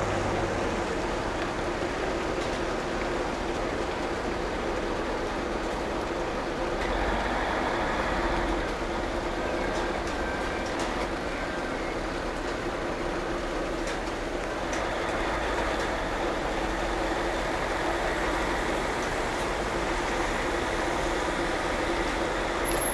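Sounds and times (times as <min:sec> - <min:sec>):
raindrops ticking near microphone: 0:00.0 - 0:22.9
steady rain: 0:00.0 - 0:22.9.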